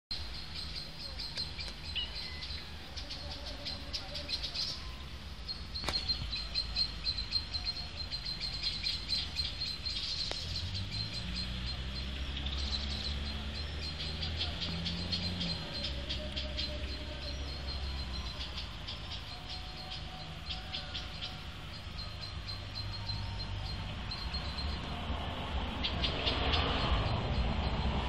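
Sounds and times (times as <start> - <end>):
small birds chirping: 0.1 - 28.0.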